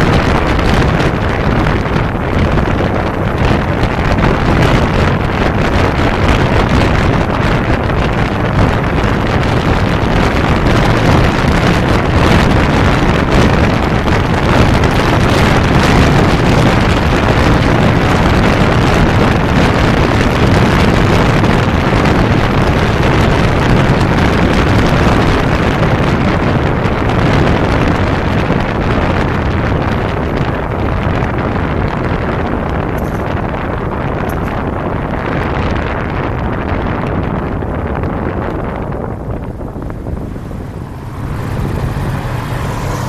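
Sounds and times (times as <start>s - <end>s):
motorcycle engine running: 0.0s - 43.0s
wind rushing on microphone: 0.0s - 43.0s.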